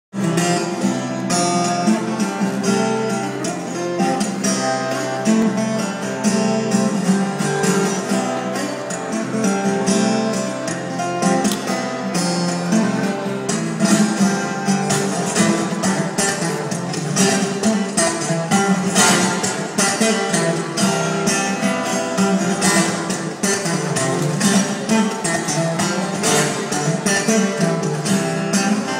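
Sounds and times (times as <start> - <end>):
fingerpicked acoustic guitar: 0.1 - 28.9.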